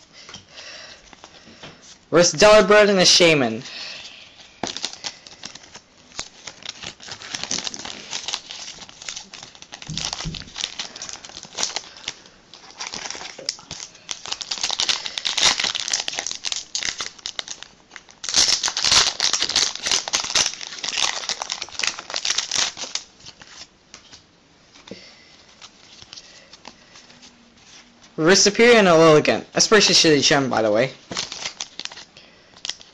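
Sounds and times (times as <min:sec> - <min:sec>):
foil wrappers crinkling and tearing: 0:01.0 - 0:24.1, 0:25.2 - 0:32.9.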